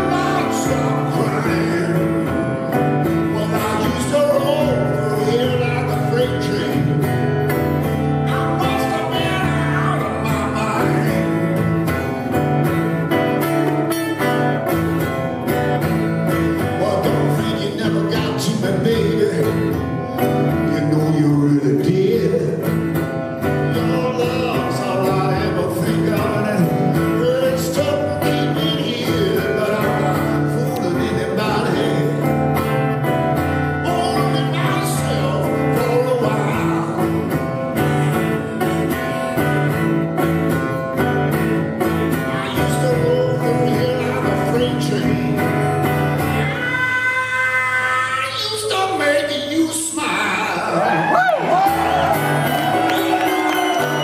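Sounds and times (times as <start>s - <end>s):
acoustic guitar strummed: 0.0s - 48.0s, 51.4s - 54.0s.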